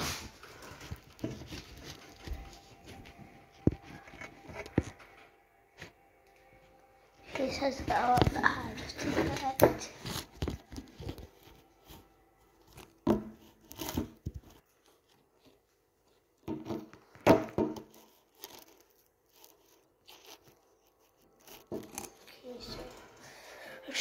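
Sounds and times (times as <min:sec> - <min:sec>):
rustling and crinkling: 0:00.0 - 0:06.8, 0:07.4 - 0:23.2.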